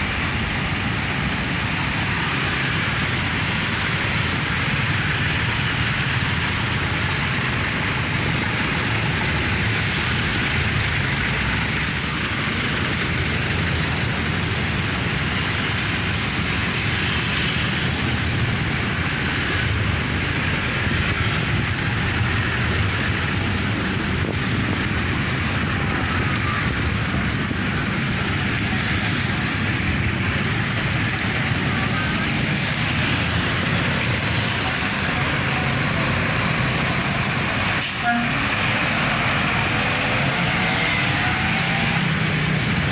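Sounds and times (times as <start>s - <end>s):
dense road traffic: 0.0s - 42.9s.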